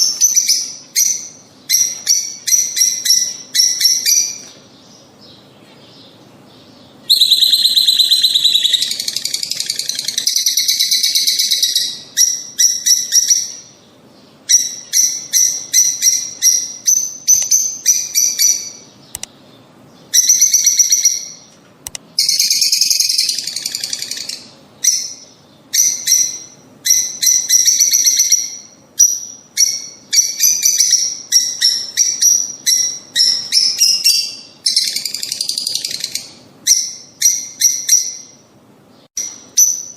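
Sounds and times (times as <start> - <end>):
lovebirds chattering: 0.0 - 38.4.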